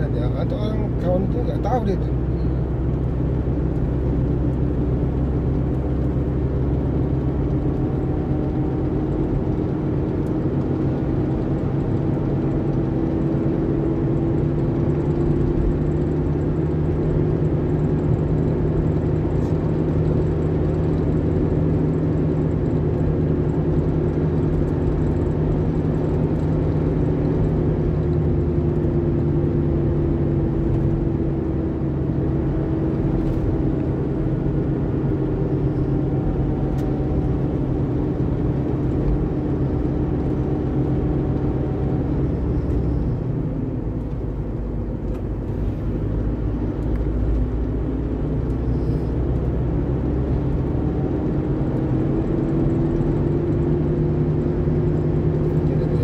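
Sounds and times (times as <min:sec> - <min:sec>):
car engine hum: 0:00.0 - 0:56.0
road rumble: 0:00.0 - 0:56.0.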